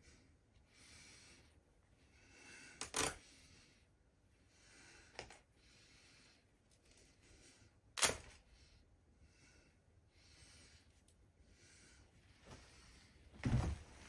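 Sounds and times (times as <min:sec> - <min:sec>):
person breathing: 0:00.0 - 0:13.4.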